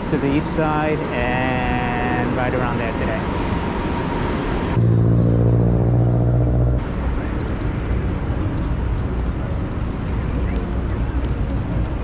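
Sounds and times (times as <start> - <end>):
city street traffic: 0.0 - 12.0
large vehicle engine humming: 0.0 - 12.0.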